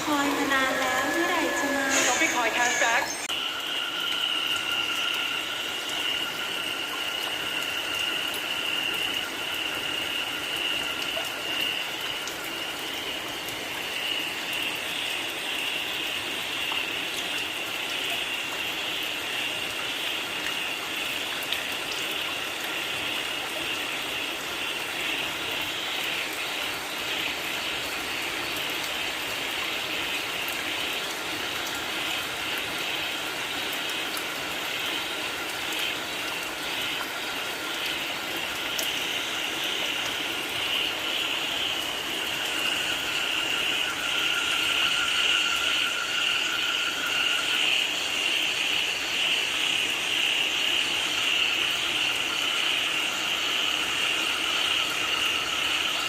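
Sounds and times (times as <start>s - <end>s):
frogs calling: 0.0s - 56.0s
rain falling: 0.0s - 56.0s.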